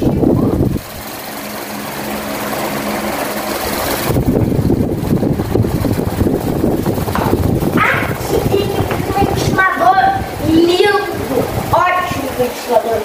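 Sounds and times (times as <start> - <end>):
air buffeting microphone: 0.0 - 13.0
electric fan motor hum: 0.0 - 13.0
rush of moving air: 0.0 - 13.0.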